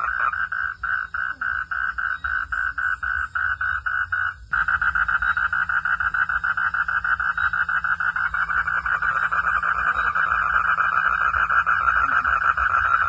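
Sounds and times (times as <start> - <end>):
frog calling in pulses: 0.0 - 13.0.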